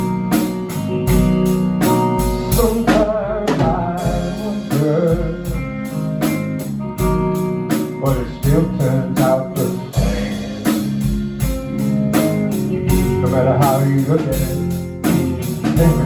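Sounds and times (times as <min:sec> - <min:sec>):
song with guitar and drums: 0:00.0 - 0:16.0.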